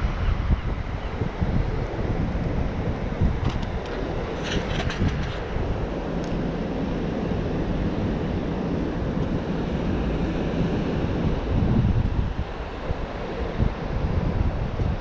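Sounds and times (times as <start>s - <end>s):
city traffic rumble: 0.0s - 15.0s
wind buffeting microphone: 0.0s - 15.0s.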